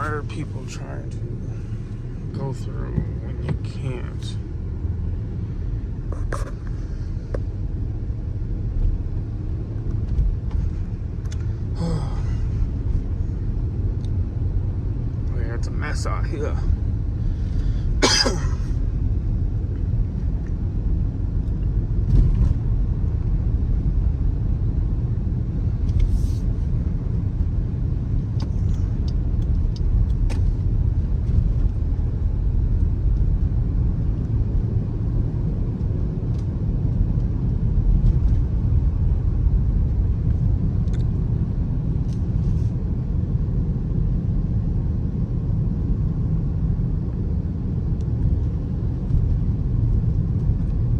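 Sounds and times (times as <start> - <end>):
car driving low rumble: 0.0 - 50.9.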